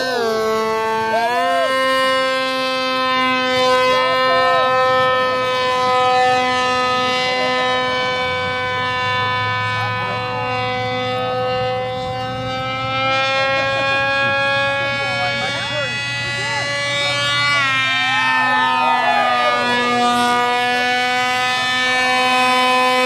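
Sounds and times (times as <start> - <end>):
electric motor and propeller whining: 0.0 - 23.0.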